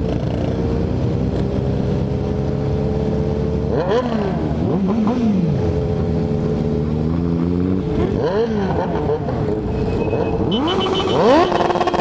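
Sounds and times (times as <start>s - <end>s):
motorcycle engine revving: 0.0s - 12.0s
motorcycle engines running: 0.0s - 12.0s.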